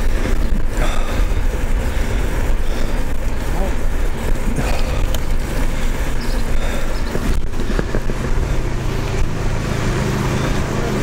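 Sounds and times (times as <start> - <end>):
bicycle tyres rolling on asphalt: 0.0 - 11.0
wind buffeting microphone: 0.0 - 11.0.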